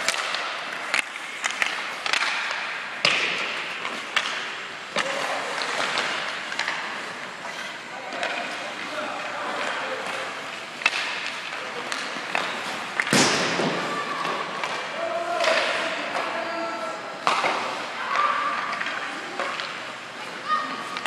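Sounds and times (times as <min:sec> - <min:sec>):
pucks and players hitting boards: 0:00.0 - 0:21.0.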